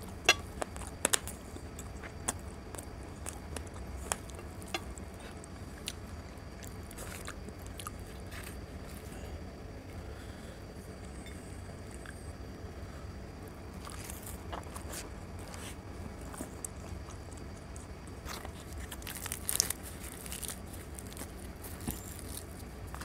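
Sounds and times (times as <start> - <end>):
wet chewing crackles: 0.0 - 9.3, 13.4 - 23.0
low steady hum: 0.0 - 23.0.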